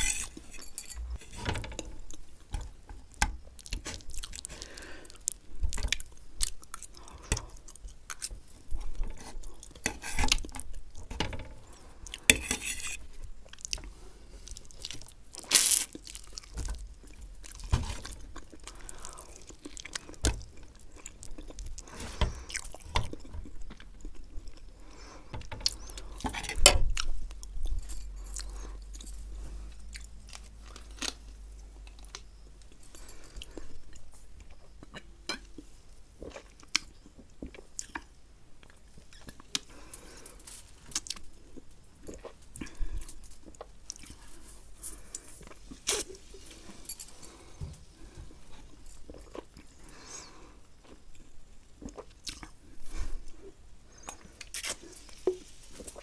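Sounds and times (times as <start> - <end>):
person chewing: 3.1 - 11.0, 11.6 - 56.0.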